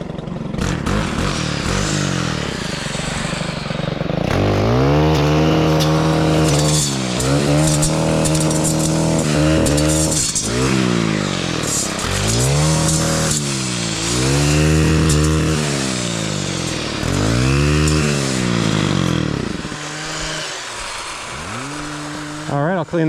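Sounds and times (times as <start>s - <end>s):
saw engine revving while cutting: 0.0s - 23.0s.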